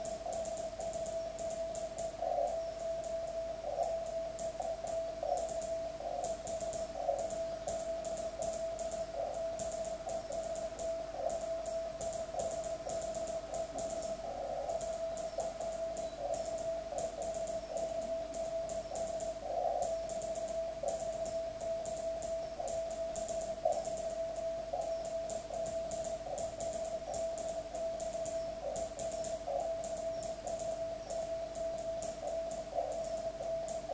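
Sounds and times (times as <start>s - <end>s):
continuous morse tone: 0.0s - 33.9s.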